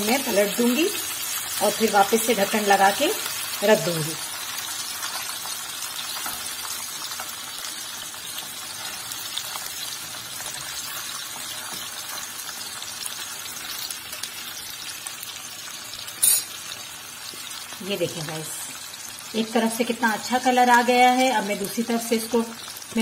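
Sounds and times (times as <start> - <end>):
chicken frying in oil: 0.0 - 23.0.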